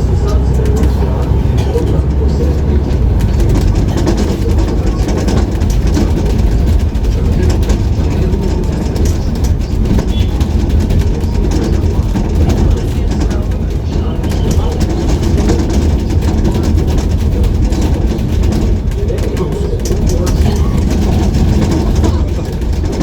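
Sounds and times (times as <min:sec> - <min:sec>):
bus rumbling: 0:00.0 - 0:23.0
city traffic: 0:00.0 - 0:23.0.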